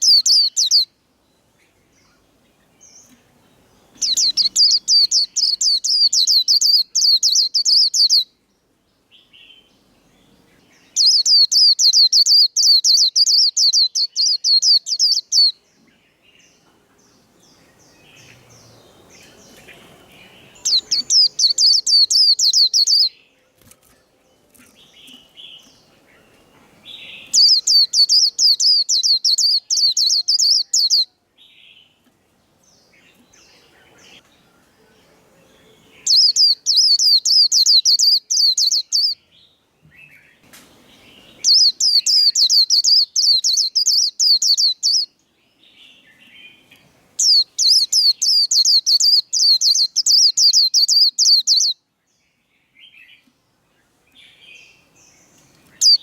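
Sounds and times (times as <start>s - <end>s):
soft bird calls: 0.0s - 56.0s.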